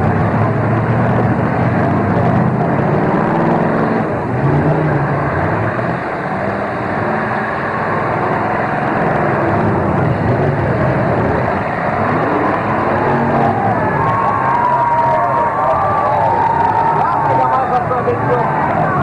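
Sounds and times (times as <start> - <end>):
car engines revving: 0.0 - 19.0
cars ramming: 0.0 - 19.0.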